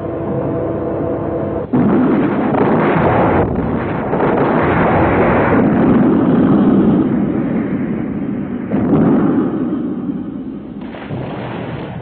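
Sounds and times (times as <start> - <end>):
deep rumbling: 0.0 - 12.0.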